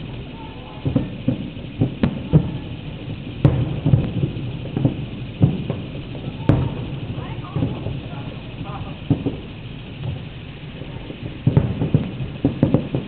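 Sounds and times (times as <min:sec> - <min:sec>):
fireworks booming: 0:00.0 - 0:13.0
fireworks sharp cracks: 0:00.0 - 0:13.0.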